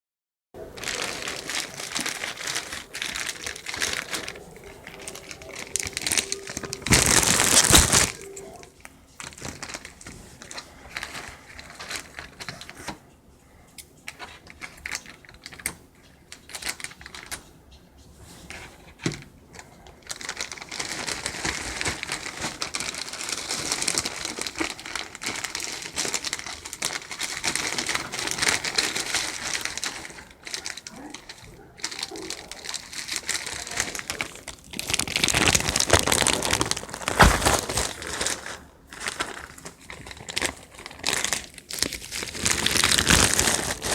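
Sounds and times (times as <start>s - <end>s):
plastic and paper crinkling: 0.6s - 13.2s, 14.0s - 43.9s.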